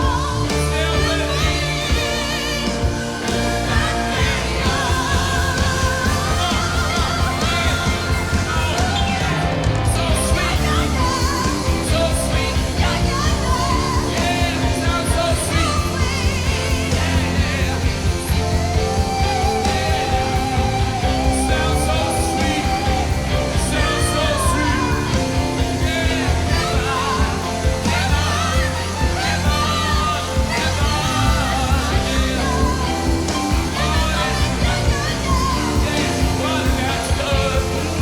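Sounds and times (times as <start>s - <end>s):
live rock band: 0.0s - 38.0s
singer belting: 0.0s - 38.0s.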